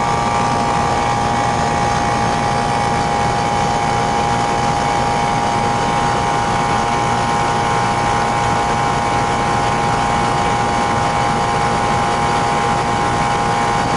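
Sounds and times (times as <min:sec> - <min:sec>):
air conditioner unit humming: 0:00.0 - 0:13.9.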